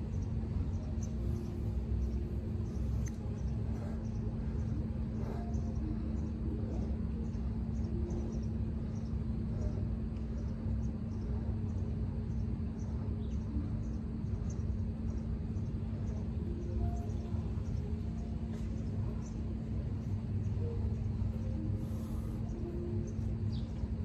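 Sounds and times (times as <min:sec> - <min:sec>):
low rumble and hum: 0:00.0 - 0:24.0.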